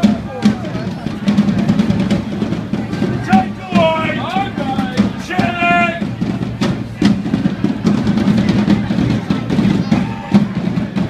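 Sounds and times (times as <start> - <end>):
marching bass drum and snare: 0.0 - 11.0.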